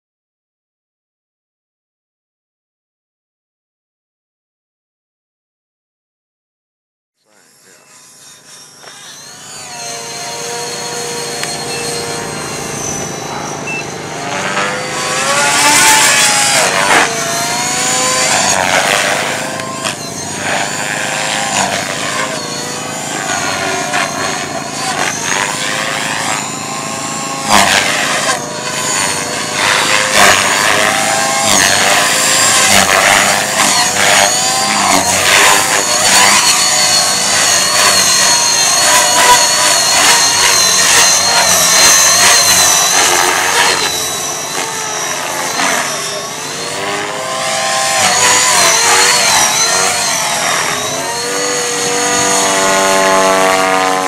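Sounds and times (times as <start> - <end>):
helicopter rotors buzzing: 7.2 - 54.0
rc helicopter motor whine: 7.2 - 54.0.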